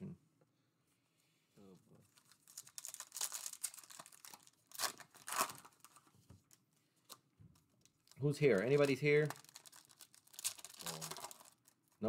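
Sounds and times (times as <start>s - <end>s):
faint rustles of cards: 0.8s - 12.0s
foil wrapper crinkling and tearing: 2.1s - 12.0s.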